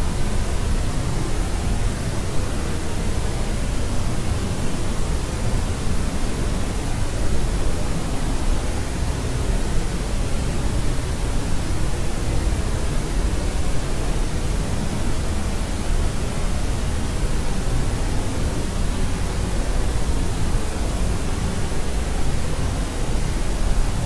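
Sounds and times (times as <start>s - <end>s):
steady white noise hiss: 0.0s - 24.0s.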